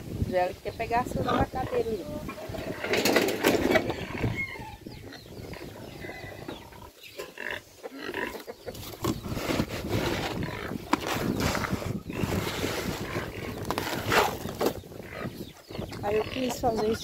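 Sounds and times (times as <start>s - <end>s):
pigs calling: 1.1s - 17.0s.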